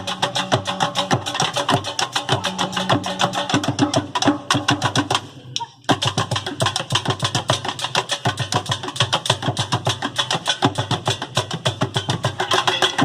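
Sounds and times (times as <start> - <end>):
street percussion ensemble drumming: 0.0 - 13.0.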